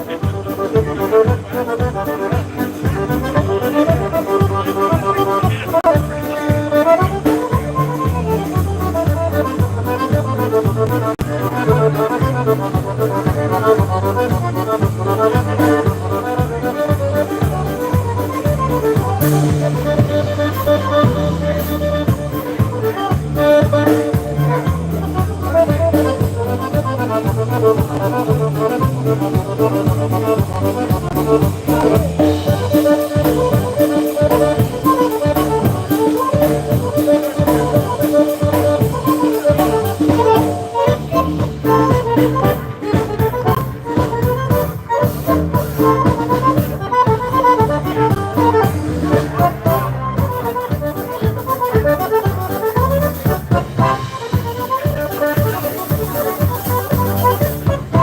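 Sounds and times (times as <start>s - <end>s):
accordion melody: 0.0s - 58.0s
polka band playing: 0.0s - 58.0s.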